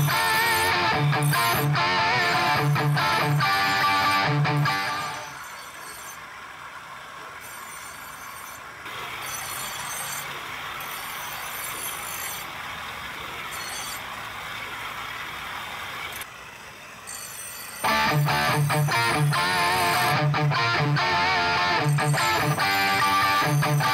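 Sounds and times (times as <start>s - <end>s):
knife grinding on grinding wheel: 0.0s - 6.4s, 7.4s - 12.6s, 13.2s - 14.2s, 17.0s - 23.9s.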